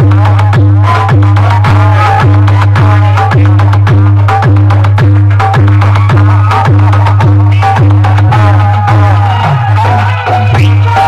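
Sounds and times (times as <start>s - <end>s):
electronic dance music over loudspeakers: 0.0s - 11.0s.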